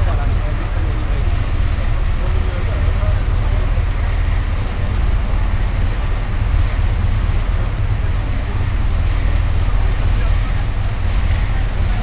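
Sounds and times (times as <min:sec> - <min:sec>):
churning wake: 0:00.0 - 0:12.0
ship engines: 0:00.0 - 0:12.0.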